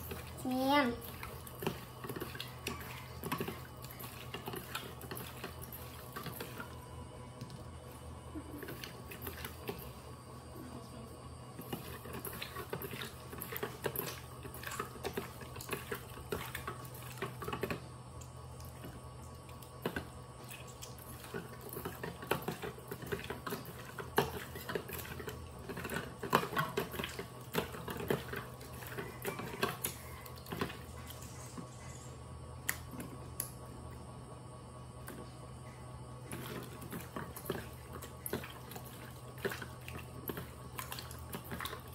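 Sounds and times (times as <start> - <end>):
hands mixing wet raw meat: 0.0 - 41.9
steady low hum: 0.0 - 41.9.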